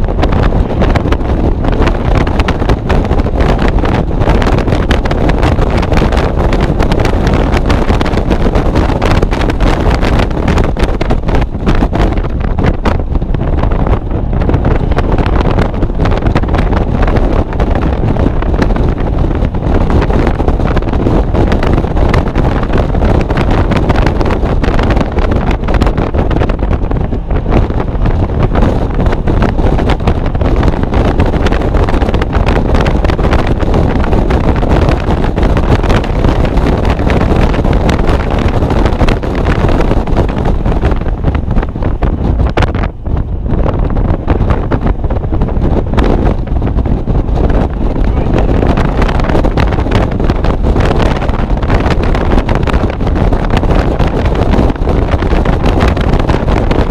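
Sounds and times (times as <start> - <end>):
car engine running hard: 0.0 - 56.9
wind buffeting microphone: 0.0 - 56.9.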